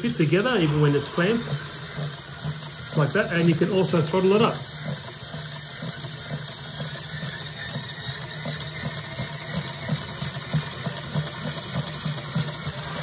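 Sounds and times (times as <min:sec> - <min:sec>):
crunchy grinding rattle: 0:00.0 - 0:13.0.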